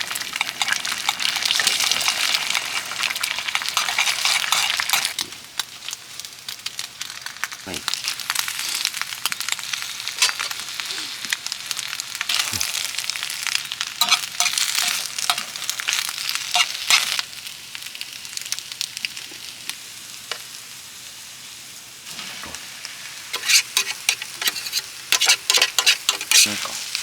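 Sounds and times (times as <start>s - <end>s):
food sizzling in a hot pan: 0.0s - 27.0s.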